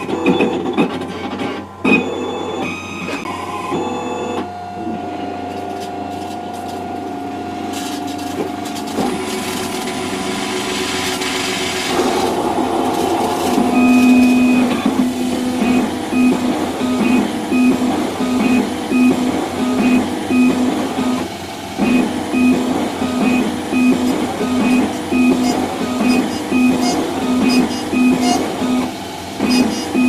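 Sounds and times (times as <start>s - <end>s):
milling machine whine and grinding: 0.0s - 30.0s.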